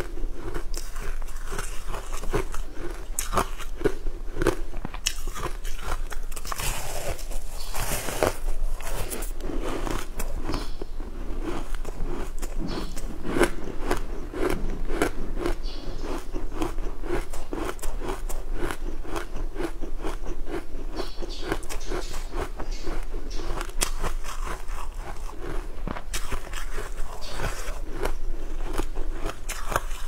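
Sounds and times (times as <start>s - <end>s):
chewing crunchy food: 0.0s - 30.0s.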